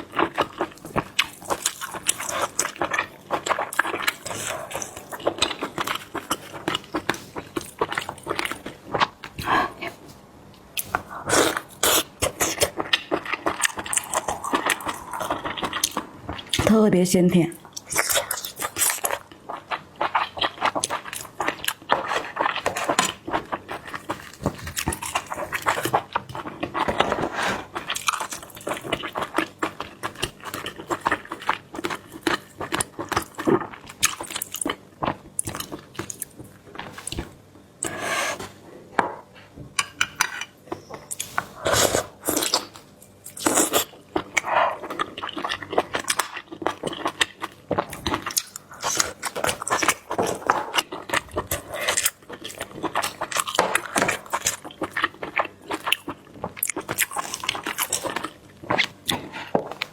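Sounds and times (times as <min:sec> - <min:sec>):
wet chewing and crunching: 0:00.0 - 0:10.0, 0:10.8 - 0:16.7, 0:17.6 - 0:37.9, 0:41.0 - 0:59.9.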